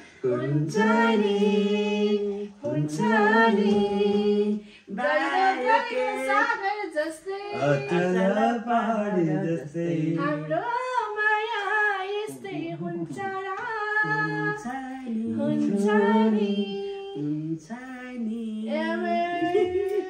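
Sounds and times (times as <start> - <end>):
lower voice singing along: 0.0 - 6.4, 7.5 - 10.7, 12.1 - 20.0
woman singing slow love song: 0.2 - 20.0.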